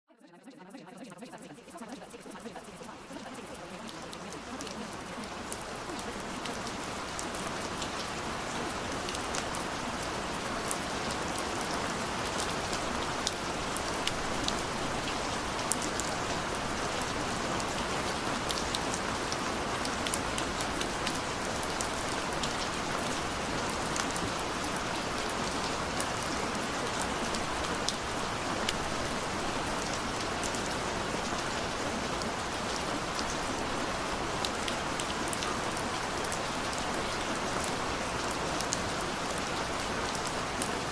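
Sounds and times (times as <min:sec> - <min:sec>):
steady rainfall: 0:01.6 - 0:40.9.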